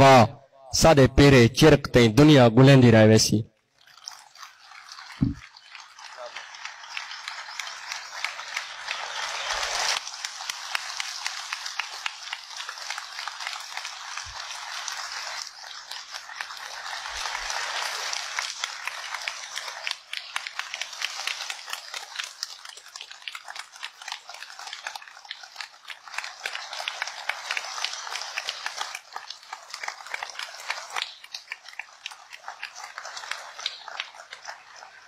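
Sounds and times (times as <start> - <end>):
audience applauding: 4.0 - 35.0.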